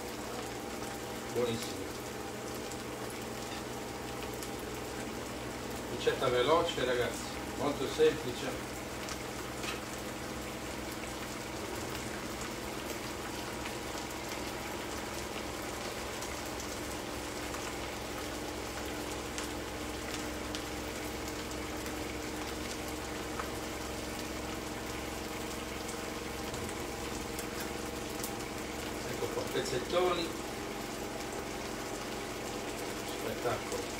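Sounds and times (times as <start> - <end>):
pans sizzling: 0.0 - 33.9.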